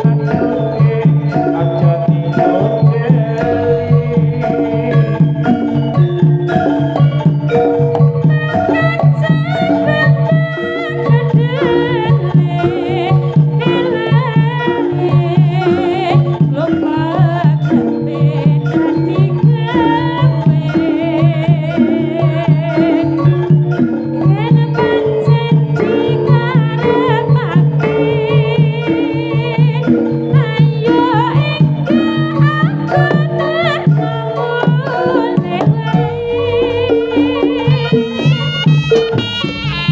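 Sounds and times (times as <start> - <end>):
drum strokes: 0.0 - 39.9
gongs and metallophones: 0.0 - 39.9
high wavering melody: 0.0 - 39.9.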